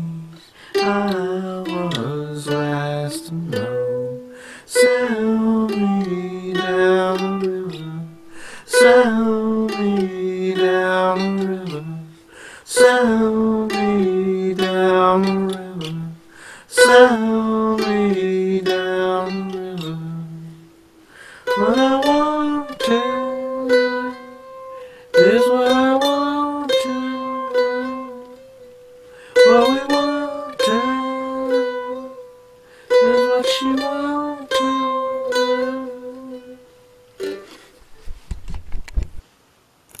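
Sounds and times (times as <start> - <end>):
mandolin playing: 0.0 - 38.3.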